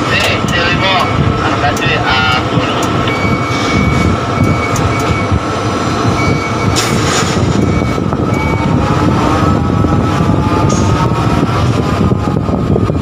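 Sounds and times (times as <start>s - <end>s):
crane rumble: 0.0s - 13.0s
rising whine: 0.0s - 13.0s.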